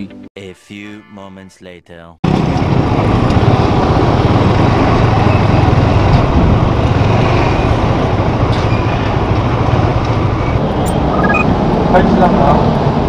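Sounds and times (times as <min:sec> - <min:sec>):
motorcycle engine and road noise: 0:02.3 - 0:13.0.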